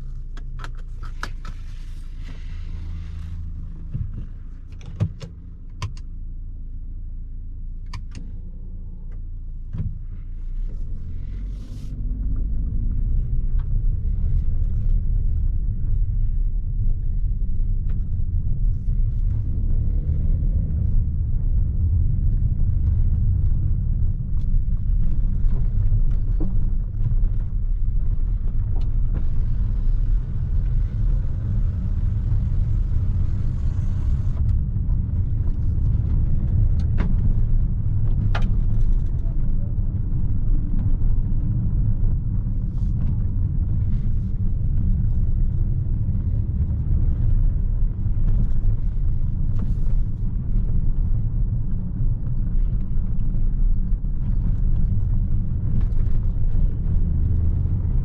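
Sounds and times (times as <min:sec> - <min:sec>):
engine and tyre rumble in car cabin: 0:00.0 - 0:58.0.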